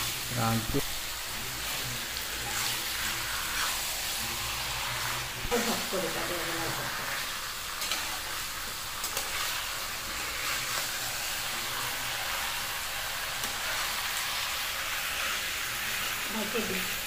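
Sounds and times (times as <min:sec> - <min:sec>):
chicken and potatoes frying in oil: 0:00.0 - 0:17.0.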